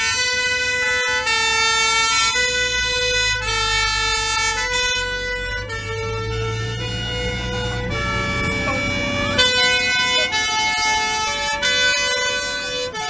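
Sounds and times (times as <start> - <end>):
truck engine running: 0.0 - 13.0
two-tone fire engine siren: 0.0 - 13.0.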